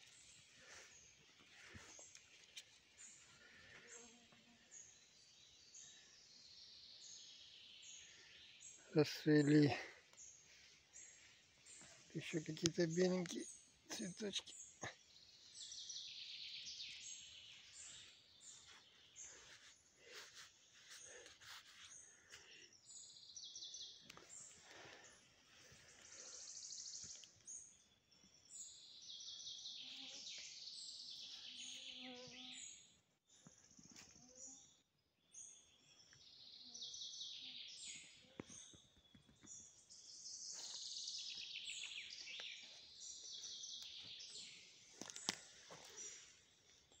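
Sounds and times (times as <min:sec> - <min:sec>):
songbirds singing: 0:00.0 - 0:47.0.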